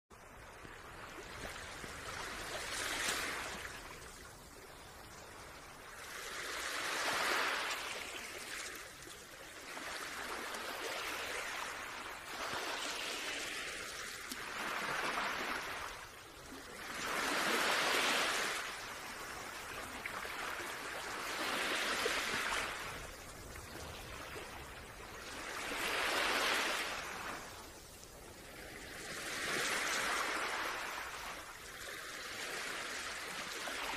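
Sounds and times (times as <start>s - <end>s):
small waves washing ashore: 0.2s - 33.9s.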